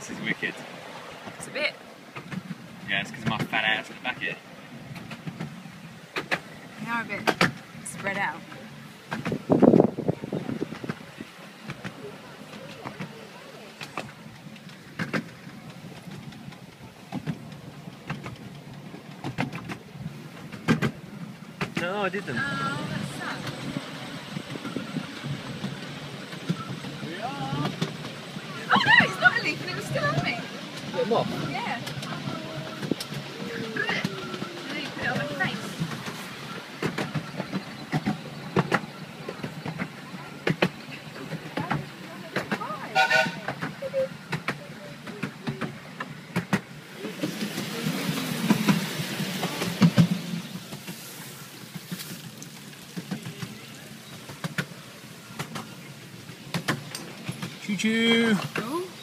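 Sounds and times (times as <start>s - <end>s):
carriages rattling: 0.0s - 59.0s
train wheels rumbling on rail: 0.0s - 59.0s.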